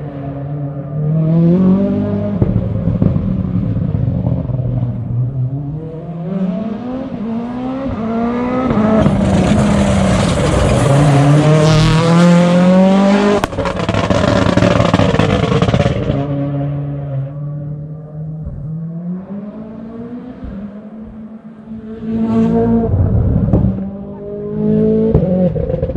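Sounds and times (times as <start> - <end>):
rally car engine accelerating: 0.0 - 25.9.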